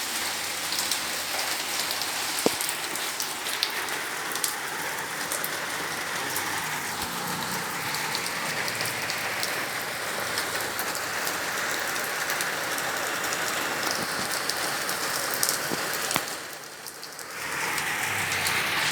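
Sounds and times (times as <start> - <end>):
drips and splashes: 0.0 - 18.9
steady rain falling: 0.0 - 18.9.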